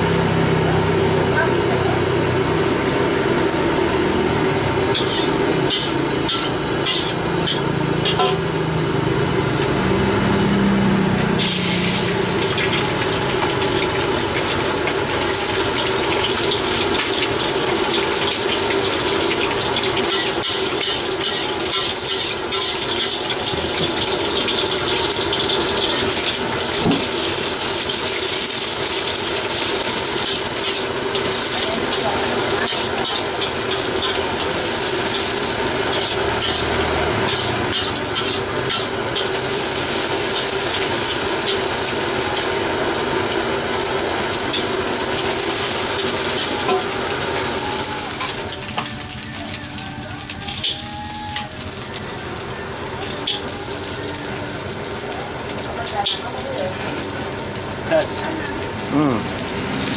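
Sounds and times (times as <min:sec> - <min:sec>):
food sizzling in a wok: 0:00.0 - 0:59.9
stove burner hiss: 0:00.1 - 0:59.9.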